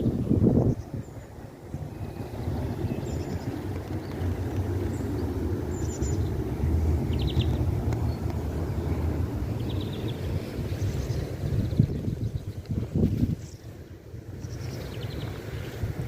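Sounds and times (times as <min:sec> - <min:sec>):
small birds chirping and trilling: 0:00.0 - 0:16.0
wind noise rumble: 0:00.0 - 0:16.0.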